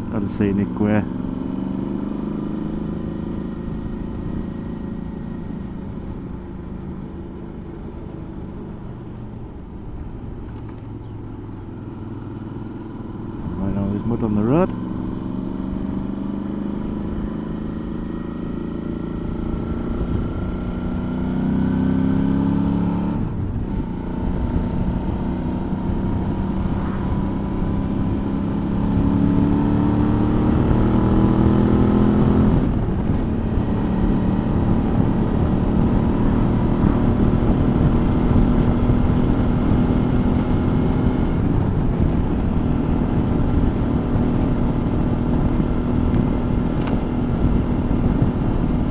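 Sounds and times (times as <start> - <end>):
motorcycle engine revving: 0.0 - 9.2, 10.0 - 48.9
road and wind noise: 0.0 - 48.9.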